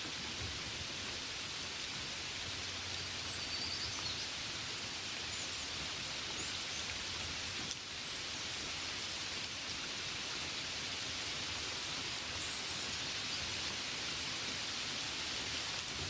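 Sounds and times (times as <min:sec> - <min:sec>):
gentle rain hissing: 0:00.0 - 0:16.0.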